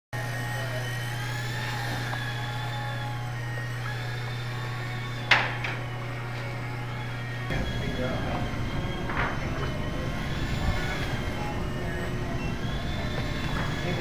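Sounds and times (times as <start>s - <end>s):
micro helicopter motors whining: 0.2s - 14.0s
steady low hum: 0.2s - 14.0s.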